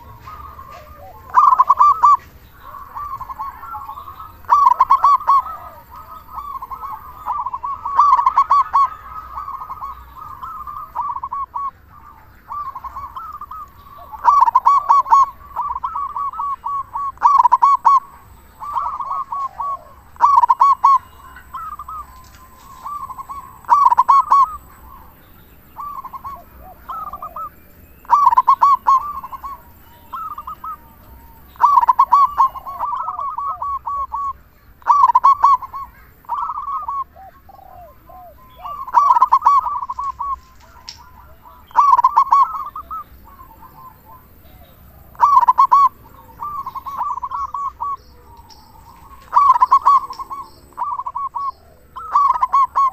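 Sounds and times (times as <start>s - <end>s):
dove cooing: 0.0s - 52.9s.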